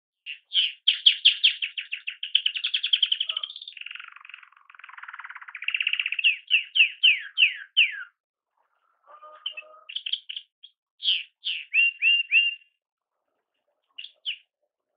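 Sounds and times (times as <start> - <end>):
canary singing: 0.2 - 8.2, 8.8 - 12.8, 13.9 - 14.5.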